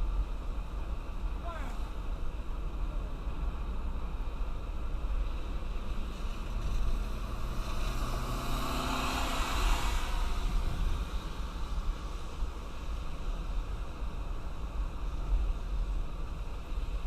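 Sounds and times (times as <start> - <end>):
road and rain rumble: 0.0 - 17.0.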